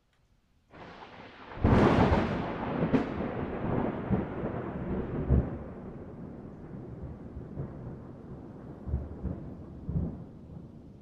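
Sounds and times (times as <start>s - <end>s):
rolling thunder: 0.7s - 10.9s
thunderclap: 0.7s - 10.9s
sharp thunder crack: 0.8s - 10.2s.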